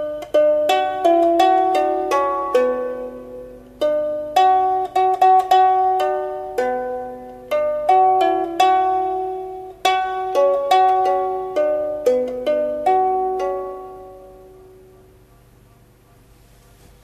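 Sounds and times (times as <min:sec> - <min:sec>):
plucked string melody: 0:00.0 - 0:15.4.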